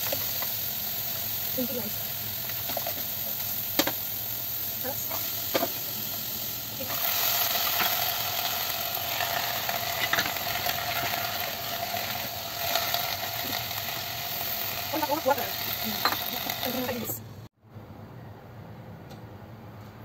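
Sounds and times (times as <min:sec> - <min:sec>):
vegetables sizzling in a pot: 0:00.0 - 0:17.5.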